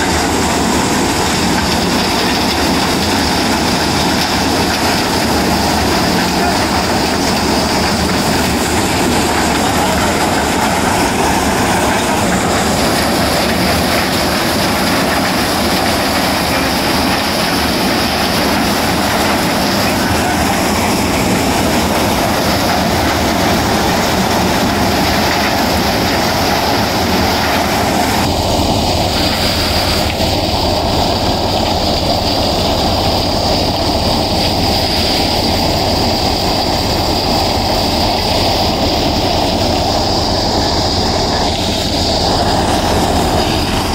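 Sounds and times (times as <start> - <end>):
thresher running: 0.0 - 43.9.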